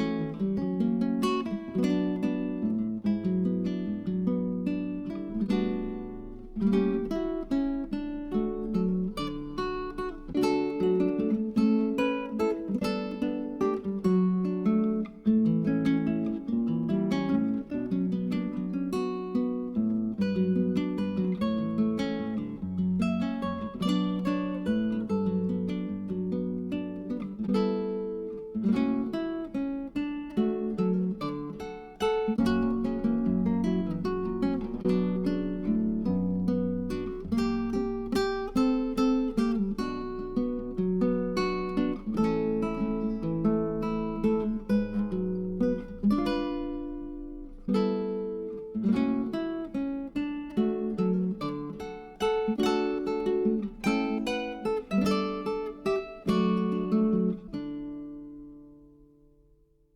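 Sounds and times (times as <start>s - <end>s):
acoustic guitar strumming: 0.0s - 59.3s.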